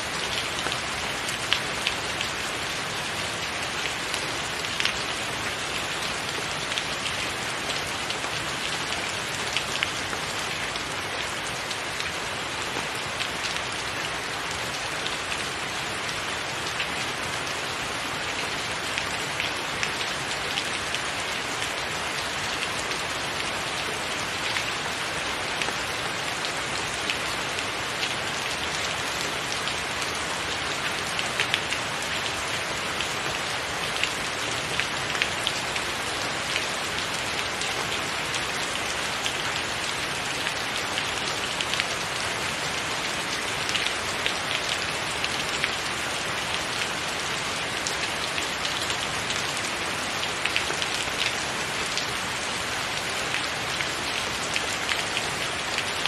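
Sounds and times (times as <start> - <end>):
rain on a tiled roof: 0.0 - 56.0.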